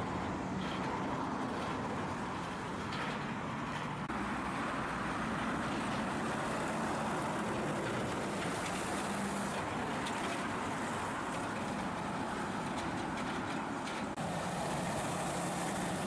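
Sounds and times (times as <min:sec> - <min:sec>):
diesel lorry engine driving past: 0:00.0 - 0:16.0
tyre and road noise: 0:00.0 - 0:16.0.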